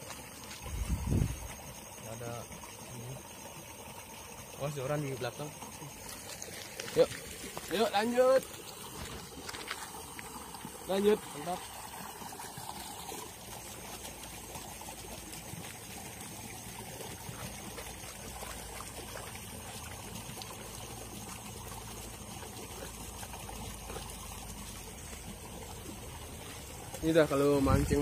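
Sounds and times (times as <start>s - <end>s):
water trickling and flowing: 0.0s - 28.0s.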